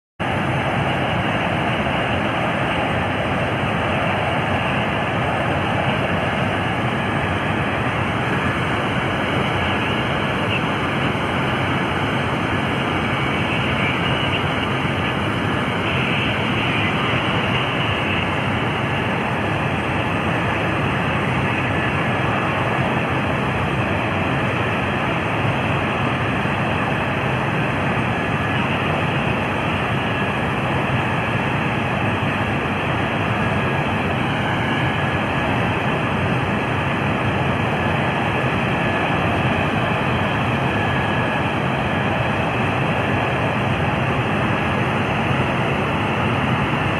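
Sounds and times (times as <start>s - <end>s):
engine rushing noise: 0.2s - 46.9s.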